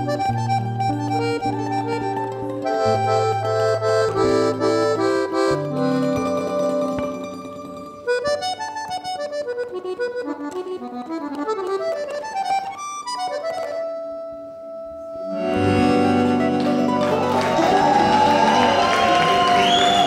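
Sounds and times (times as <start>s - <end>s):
accordion playing: 0.0s - 20.0s.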